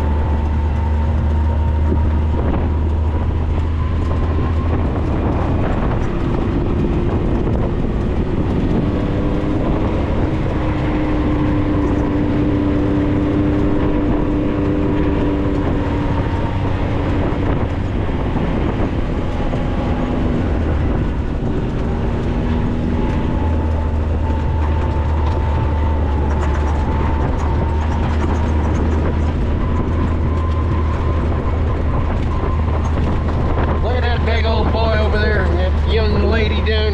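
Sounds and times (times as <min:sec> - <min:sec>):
drivetrain whine: 0:00.0 - 0:36.9
vehicle engine rumbling: 0:00.0 - 0:36.9.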